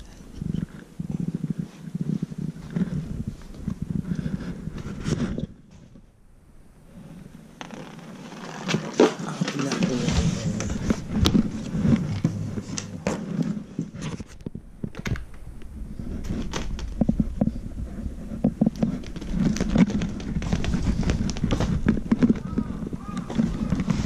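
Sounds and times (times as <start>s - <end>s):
microphone handling noise: 0.0s - 6.2s, 6.8s - 24.0s.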